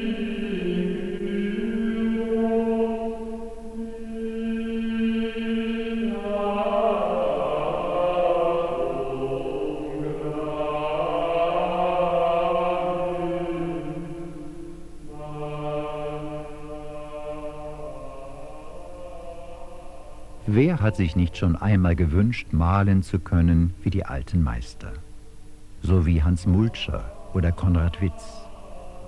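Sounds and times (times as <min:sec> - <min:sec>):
voices singing a sacred chant: 0:00.0 - 0:25.0, 0:25.8 - 0:29.0.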